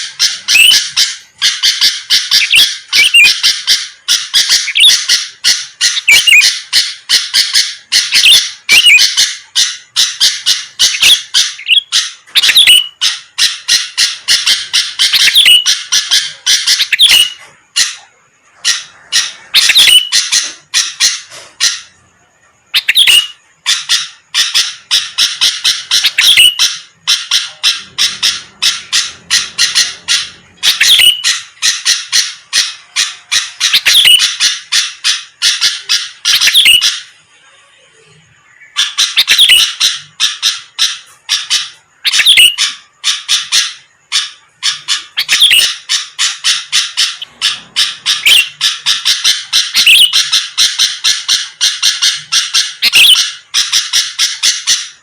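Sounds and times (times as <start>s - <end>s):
bulbul chattering song: 0.0s - 55.0s.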